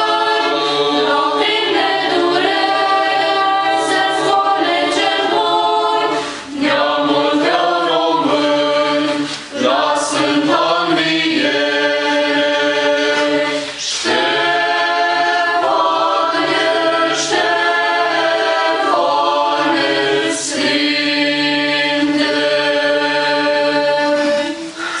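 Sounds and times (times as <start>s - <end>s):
mixed choir singing a cappella: 0.0s - 25.0s.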